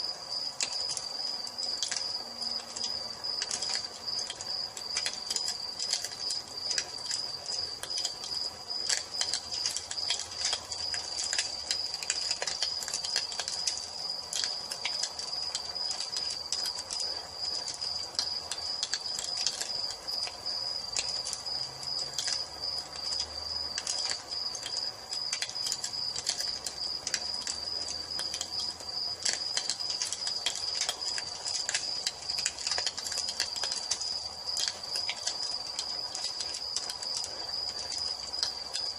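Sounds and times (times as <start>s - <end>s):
crickets chirring: 0.0s - 38.9s
wood fire crackling and popping: 0.0s - 38.9s.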